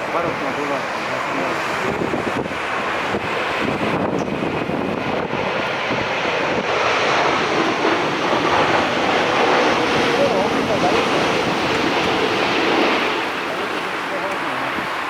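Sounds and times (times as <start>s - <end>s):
jet airliner noise: 0.0s - 15.0s
wind buffeting microphone: 0.0s - 15.0s.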